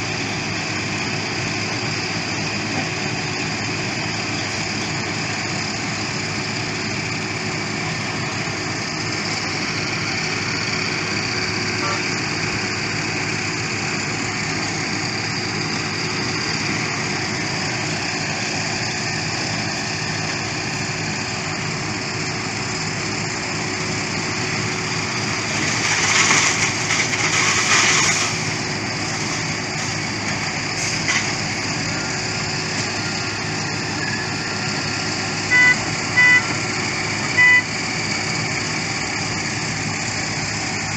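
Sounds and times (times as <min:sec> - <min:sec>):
construction machinery engine running: 0:00.0 - 0:40.9.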